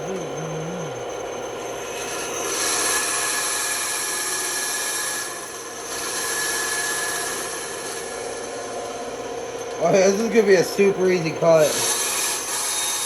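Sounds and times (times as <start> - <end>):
band saw cutting wood: 0.0 - 13.0.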